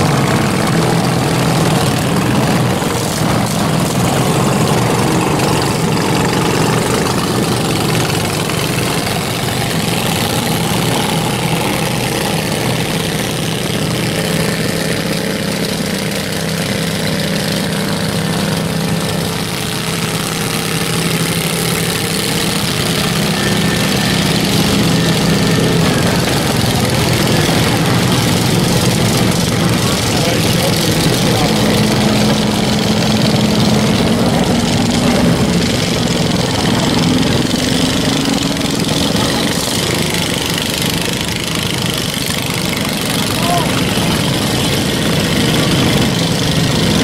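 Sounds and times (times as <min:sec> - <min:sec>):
riding lawn mower engines: 0:00.0 - 0:47.0.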